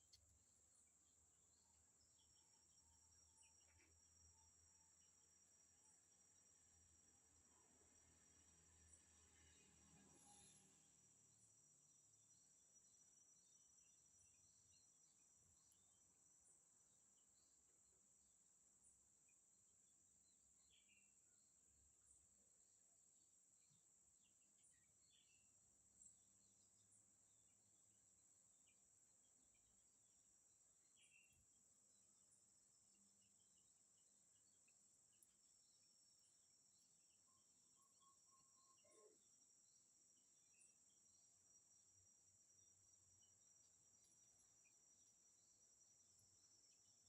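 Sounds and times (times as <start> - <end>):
faint insect drone: 0.0 - 47.0.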